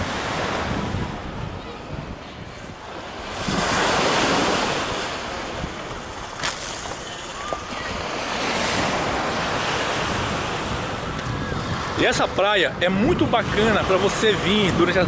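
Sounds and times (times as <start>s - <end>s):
small waves washing onto beach: 0.0s - 15.0s
wind buffeting microphone: 0.0s - 15.0s.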